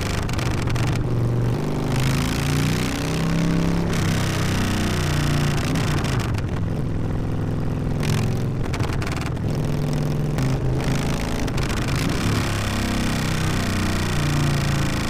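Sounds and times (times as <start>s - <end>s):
motorcycle exhaust running loud: 0.0s - 15.0s.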